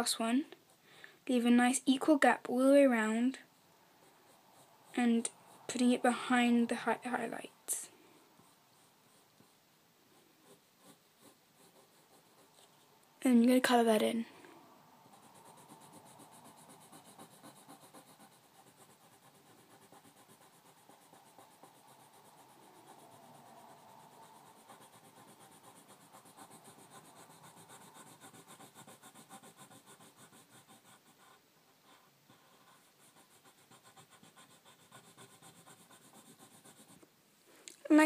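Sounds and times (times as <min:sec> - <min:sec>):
pencil scratching on paper: 0:00.0 - 0:12.9, 0:15.0 - 0:37.1.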